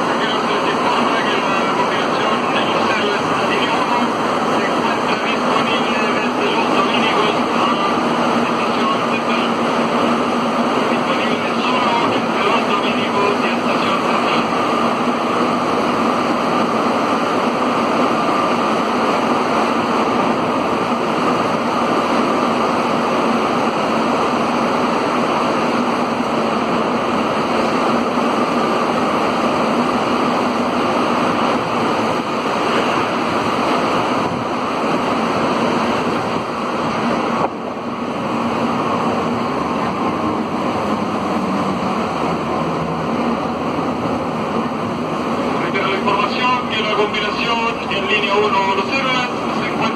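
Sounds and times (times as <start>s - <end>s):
metro train running through tunnel: 0.0s - 49.9s.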